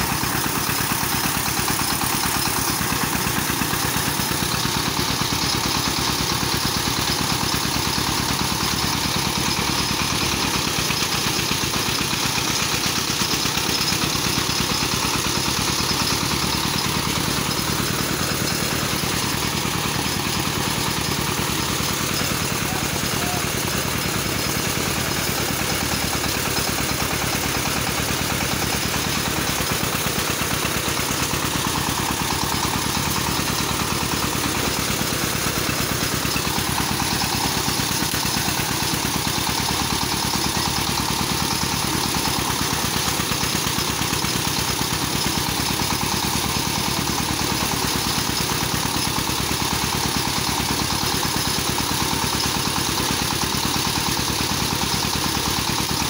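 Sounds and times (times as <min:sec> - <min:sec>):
thresher engine running: 0:00.0 - 0:56.0.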